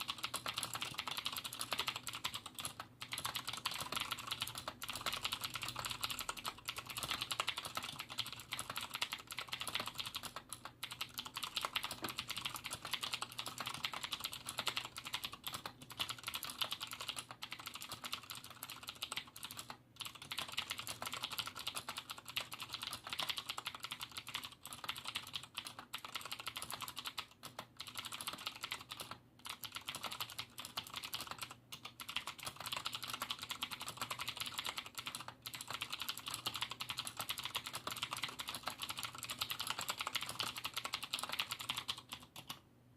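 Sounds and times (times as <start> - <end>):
clicky mechanical keyboard typing: 0.0 - 42.6.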